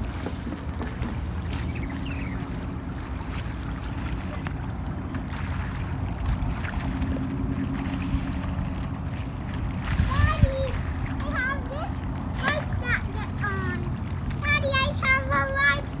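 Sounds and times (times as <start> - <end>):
wind rumble on microphone: 0.0 - 14.5
small waves washing: 0.0 - 16.0.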